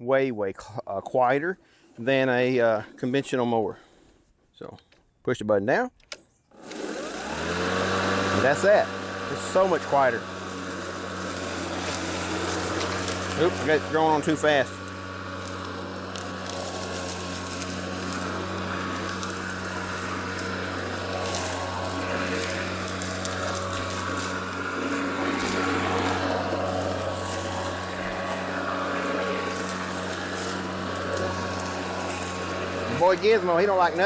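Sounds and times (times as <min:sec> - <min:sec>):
electric lawn mower humming: 0:06.4 - 0:34.0.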